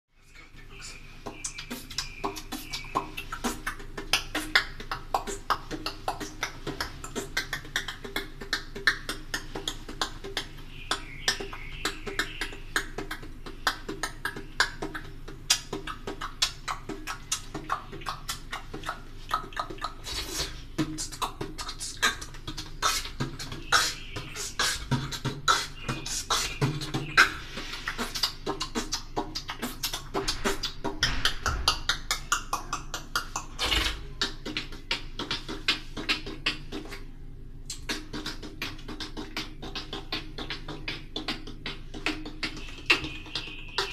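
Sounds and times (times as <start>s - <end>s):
beatboxing mouth percussion: 0.1s - 43.9s.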